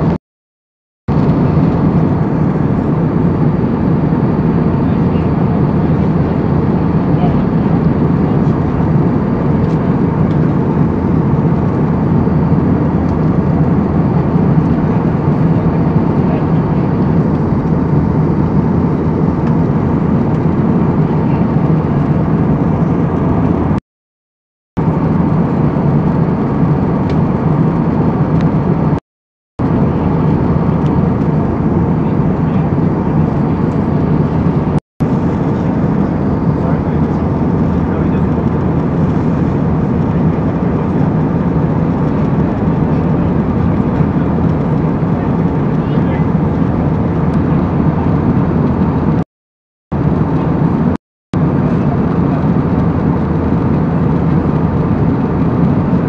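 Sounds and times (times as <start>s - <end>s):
airplane cabin roar: 0.0s - 0.2s, 1.1s - 23.8s, 24.8s - 29.0s, 29.6s - 49.3s, 49.9s - 56.0s.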